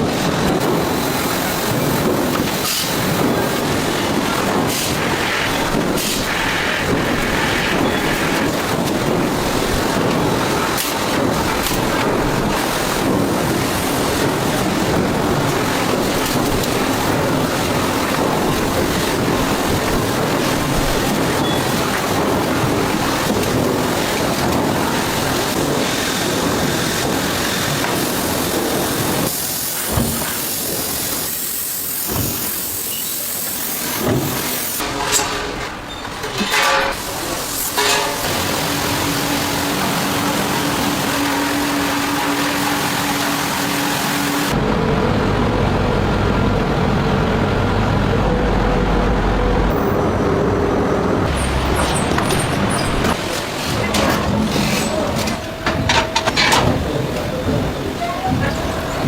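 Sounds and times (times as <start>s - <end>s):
factory machinery hissing and rumbling: 0.0s - 59.0s.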